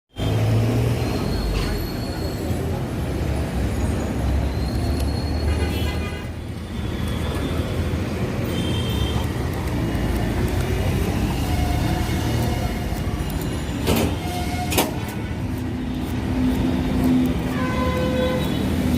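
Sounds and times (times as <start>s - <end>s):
road traffic rumble: 0.1s - 18.9s.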